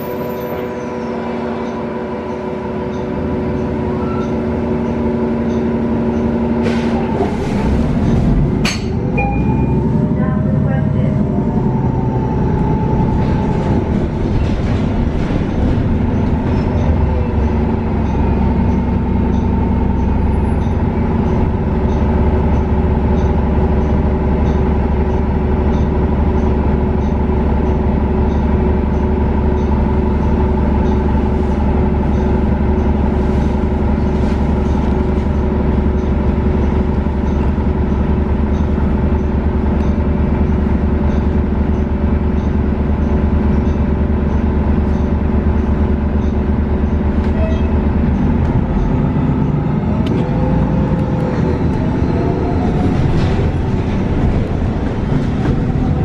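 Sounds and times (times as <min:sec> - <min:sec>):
bus engine drone with whine: 0:00.0 - 0:56.0.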